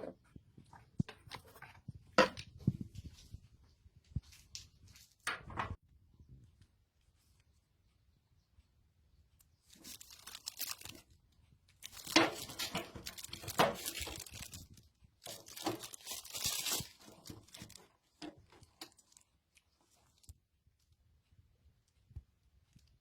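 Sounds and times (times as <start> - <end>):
crinkly handling noise: 0.0 - 5.8, 9.3 - 23.0.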